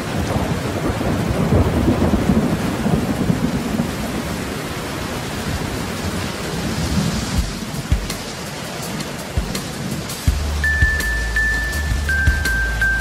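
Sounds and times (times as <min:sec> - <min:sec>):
thunder rumbling: 0:00.0 - 0:10.6
steady rain: 0:00.0 - 0:13.0.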